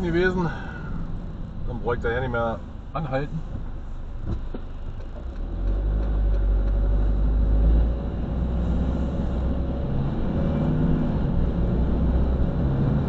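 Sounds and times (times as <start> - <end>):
road rumble: 0.0 - 13.0
van engine accelerating: 0.0 - 13.0.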